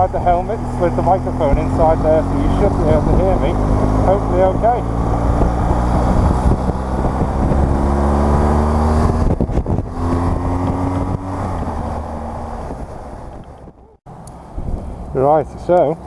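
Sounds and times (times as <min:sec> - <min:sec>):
motorcycle engine running: 0:00.0 - 0:14.0
wind noise: 0:00.0 - 0:15.2.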